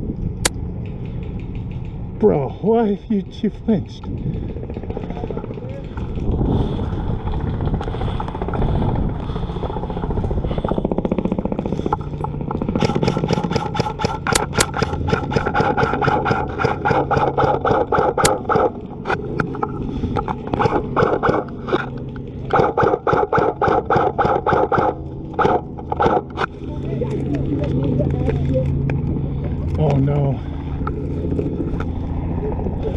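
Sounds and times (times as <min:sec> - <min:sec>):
steady noisy rumble: 0:00.0 - 0:32.9.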